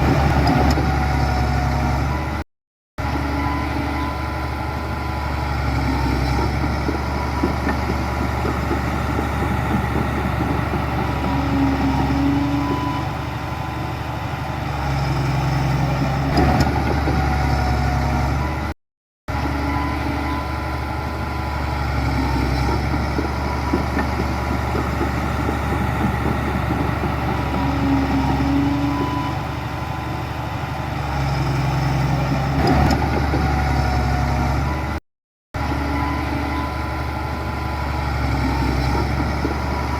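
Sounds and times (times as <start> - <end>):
heavy diesel engine running: 0.0 - 2.4, 3.0 - 18.7, 19.3 - 35.0, 35.6 - 39.9.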